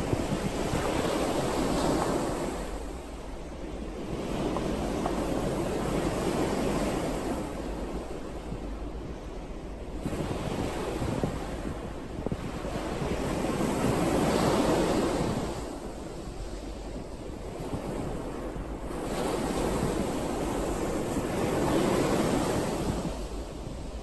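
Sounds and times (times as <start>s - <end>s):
sea waves surging and washing: 0.0s - 24.0s.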